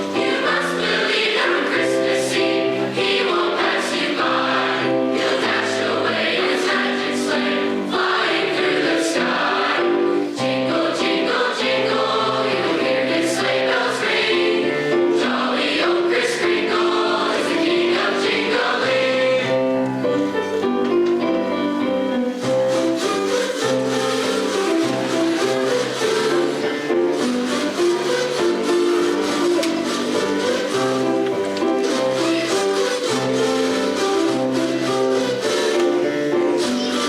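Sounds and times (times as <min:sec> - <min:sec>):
choir singing in harmony: 0:00.0 - 0:20.7, 0:21.8 - 0:37.0.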